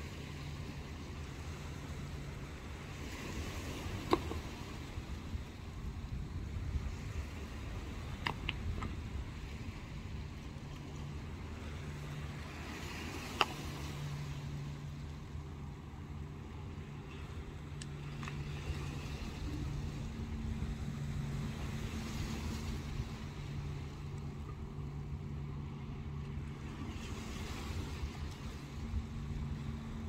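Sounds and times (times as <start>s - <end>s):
ship engines droning: 0.0s - 30.0s
waves washing on shingle: 0.0s - 30.0s.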